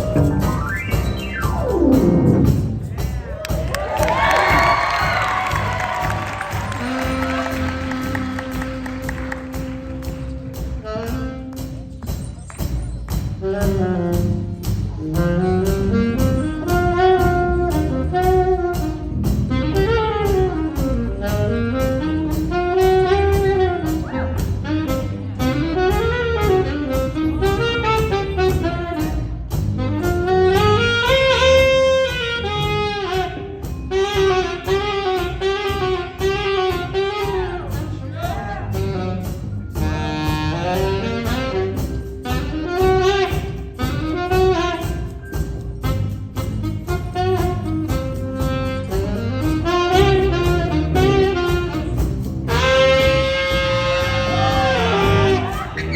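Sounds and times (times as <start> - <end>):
bass guitar: 0.0 - 55.9
piano: 0.0 - 55.9
saxophone ensemble playing jazz: 0.0 - 55.9.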